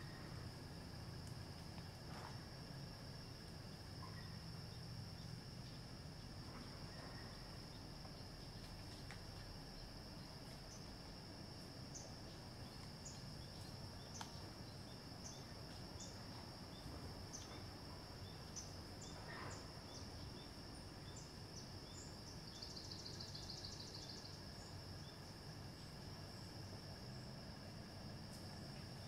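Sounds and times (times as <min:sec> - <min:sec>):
short insect chirp: 0:00.0 - 0:27.3
crickets trilling: 0:00.0 - 0:29.0
fast pulsing insect call: 0:00.0 - 0:29.0.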